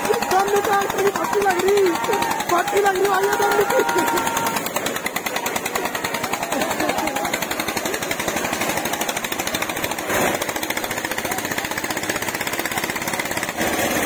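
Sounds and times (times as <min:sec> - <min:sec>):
tractor diesel engines knocking: 0:00.0 - 0:14.0.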